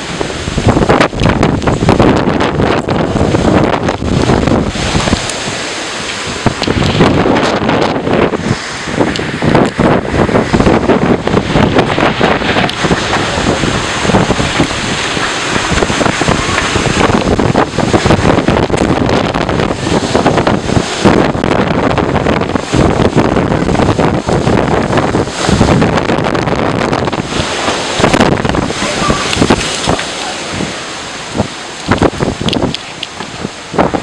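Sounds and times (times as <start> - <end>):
storm wind blasting microphone: 0.0 - 34.0.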